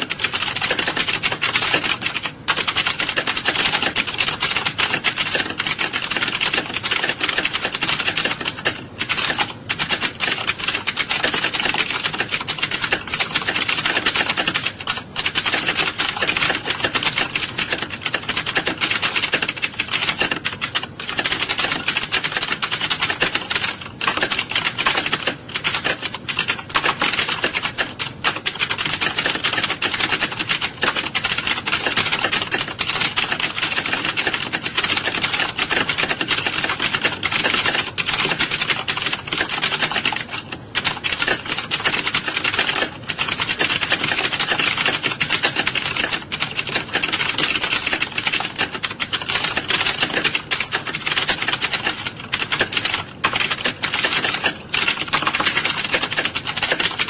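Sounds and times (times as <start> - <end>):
computer keyboards typing: 0.0 - 57.0.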